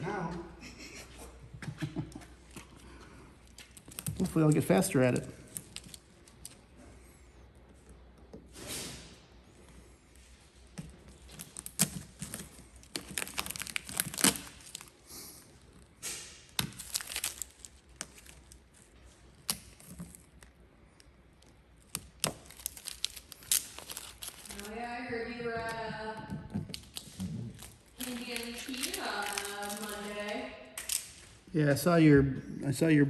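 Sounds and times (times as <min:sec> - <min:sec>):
vinyl film crackling: 0:01.8 - 0:07.0, 0:10.1 - 0:31.5.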